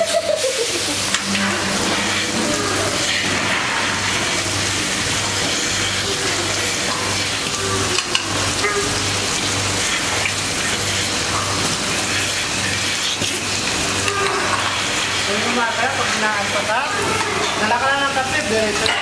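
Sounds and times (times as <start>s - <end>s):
pulsating machine hum: 0.0s - 17.2s
vacuum and water hissing: 0.0s - 18.8s.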